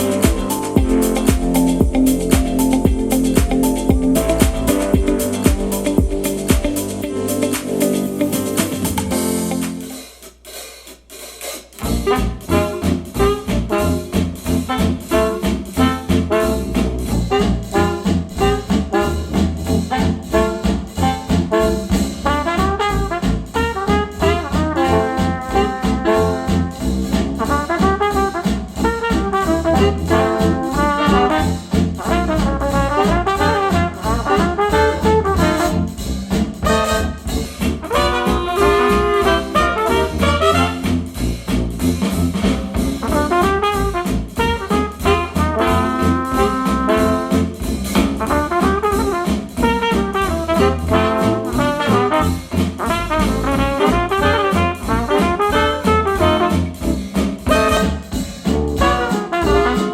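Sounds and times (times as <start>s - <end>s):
jazz with trumpet and trombone: 0.0s - 10.2s, 11.8s - 59.9s.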